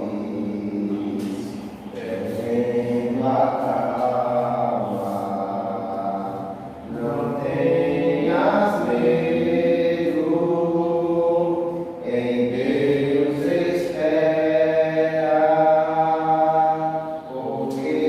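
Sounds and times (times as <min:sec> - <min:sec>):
voices singing a slow hymn: 0:00.0 - 0:18.0.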